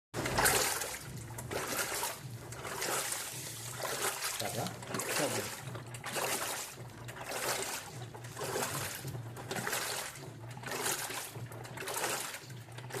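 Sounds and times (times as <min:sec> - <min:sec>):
water sloshing in washing machine: 0:00.1 - 0:13.0.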